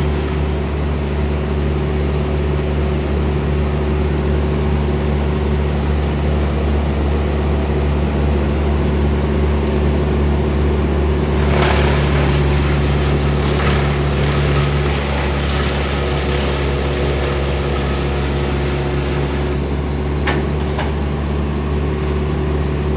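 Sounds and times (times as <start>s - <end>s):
engine running steadily: 0.0s - 22.9s.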